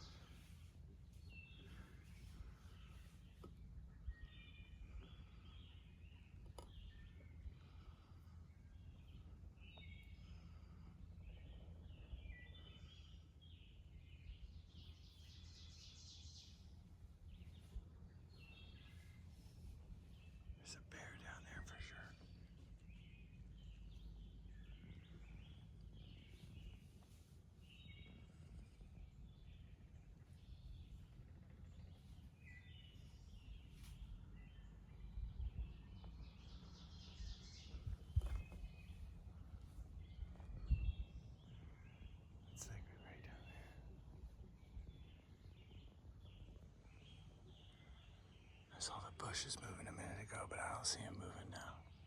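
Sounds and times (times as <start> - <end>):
low steady rumble: 0.0 - 52.0
small birds chirping and singing: 0.0 - 52.0.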